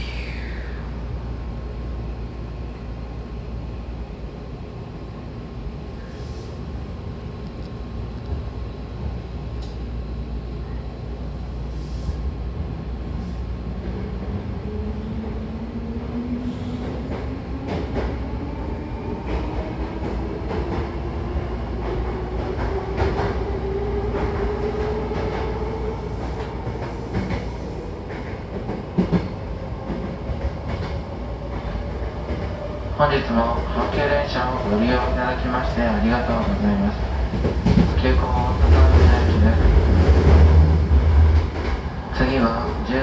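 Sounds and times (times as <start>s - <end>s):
wheels rumbling on rail: 0.0s - 43.0s.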